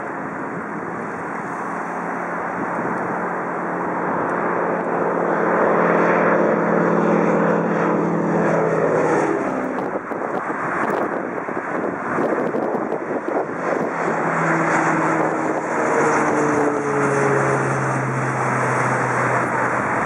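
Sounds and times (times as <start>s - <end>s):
propeller plane engine drone: 0.0s - 20.0s
rough aircraft engine: 0.0s - 20.0s.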